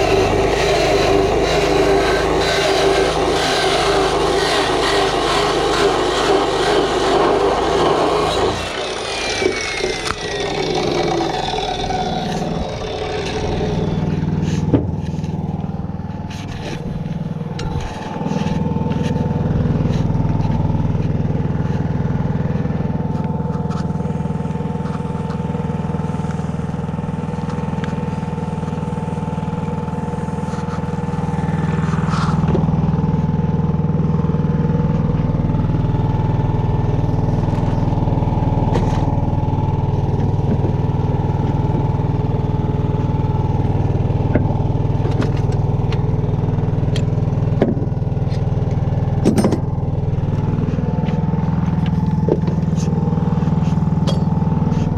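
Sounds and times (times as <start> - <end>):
engine idling: 0.0 - 54.9
thin steady whine: 0.0 - 54.9.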